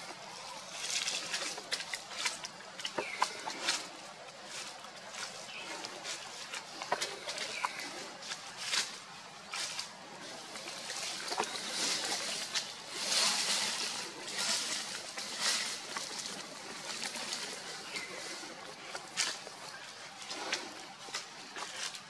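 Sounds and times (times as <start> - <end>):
monkey chewing wet fruit: 1.0 - 22.0.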